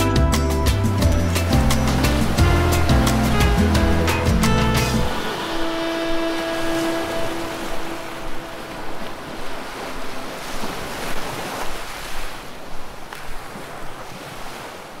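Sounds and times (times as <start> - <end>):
surf washing over rocks: 1.1 - 15.0.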